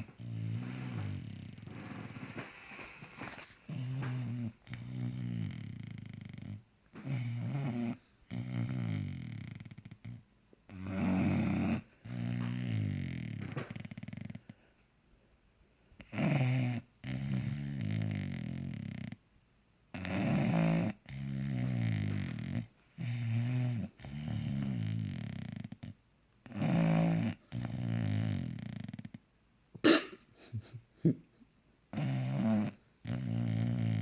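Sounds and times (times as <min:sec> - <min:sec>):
dog snoring: 0:00.0 - 0:14.6, 0:16.0 - 0:19.2, 0:19.9 - 0:29.2, 0:31.9 - 0:34.0.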